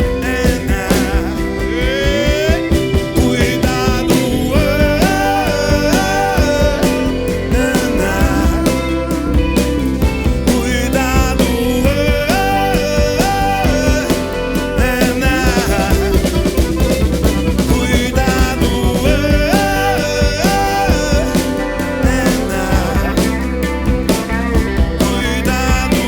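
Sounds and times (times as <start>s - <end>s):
bass: 0.0s - 26.0s
drums keeping a steady beat: 0.0s - 26.0s
rock band playing live: 0.0s - 26.0s.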